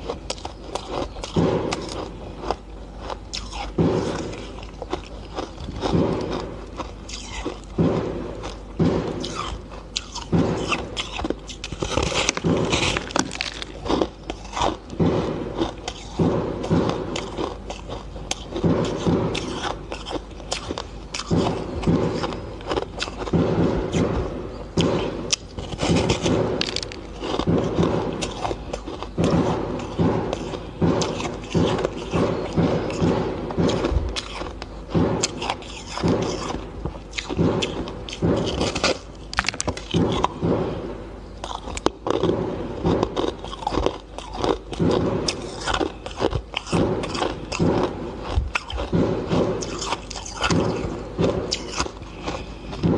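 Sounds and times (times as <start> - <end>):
person crunching ice: 0.0 - 7.8, 9.2 - 16.2, 17.1 - 24.0, 25.3 - 33.1, 33.7 - 40.4, 41.4 - 49.0, 49.6 - 52.9.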